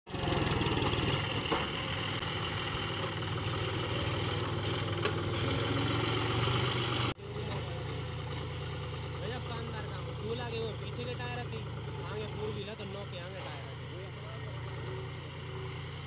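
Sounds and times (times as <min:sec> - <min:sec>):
tractor diesel engine running: 0:00.1 - 0:16.0.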